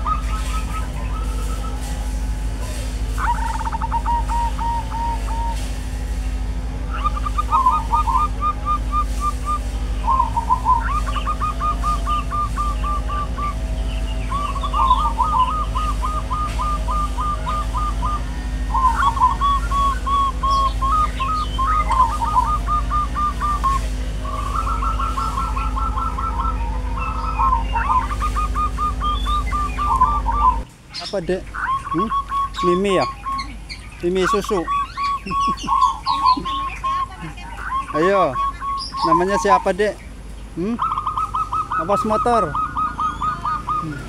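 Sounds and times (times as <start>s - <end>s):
birds whistling: 0.0s - 44.0s
low steady hum: 0.0s - 44.0s.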